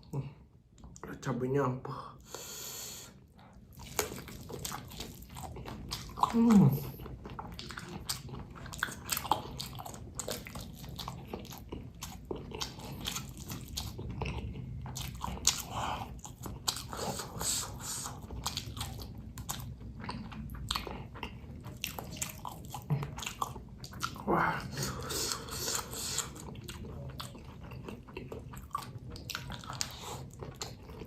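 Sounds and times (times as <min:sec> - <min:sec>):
crunchy chewing: 0:03.6 - 0:31.0.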